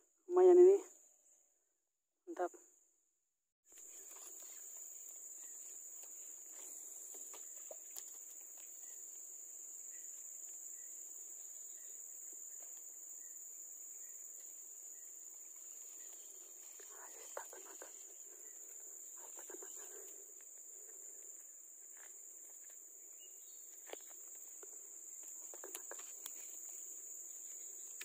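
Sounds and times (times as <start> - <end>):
high-pitched insect drone: 3.8 - 28.0.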